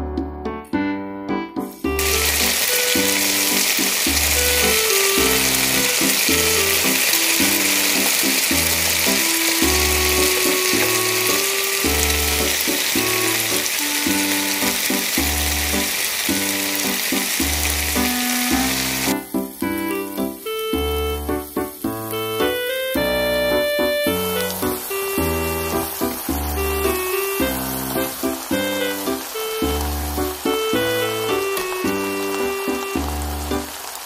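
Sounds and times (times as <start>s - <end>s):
keyboard music with bass beat: 0.0s - 33.8s
vegetables sizzling in hot oil: 1.8s - 34.0s.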